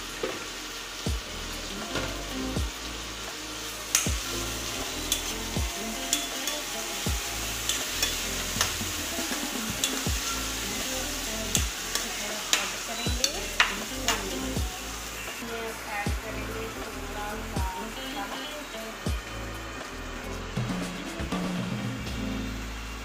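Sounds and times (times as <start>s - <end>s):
food frying and sizzling: 0.0s - 23.0s.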